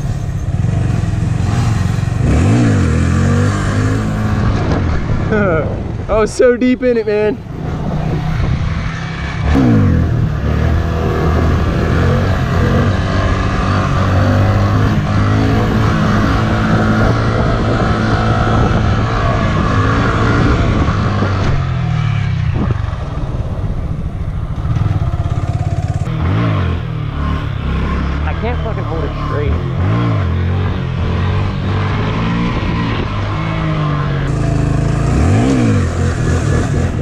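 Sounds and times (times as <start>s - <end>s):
motorcycle engine revving: 0.0s - 6.1s, 7.0s - 37.0s.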